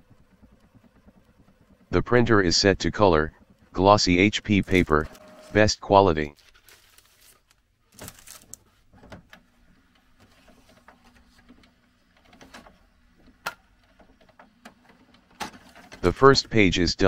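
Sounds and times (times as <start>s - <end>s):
printer motor hum: 0.0s - 5.9s, 8.8s - 16.8s.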